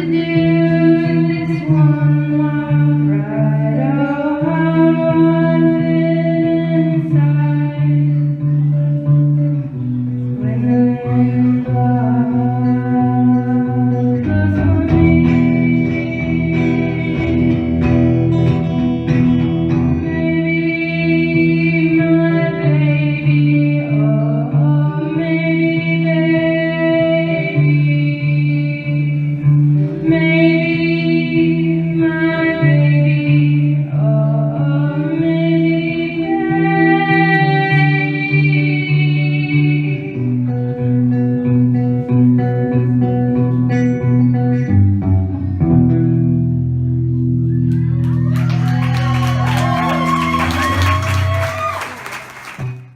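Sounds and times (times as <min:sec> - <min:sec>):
person singing: 0:00.0 - 0:44.6.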